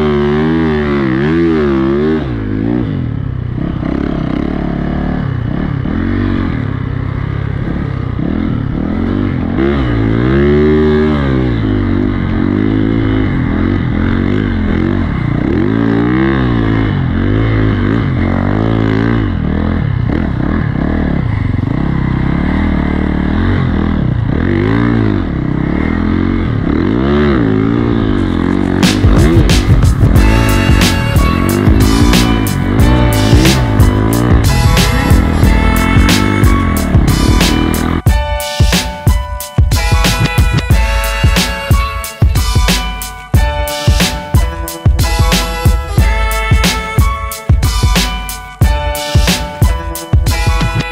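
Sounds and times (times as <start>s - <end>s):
snowbike engine revving: 0.0s - 50.9s.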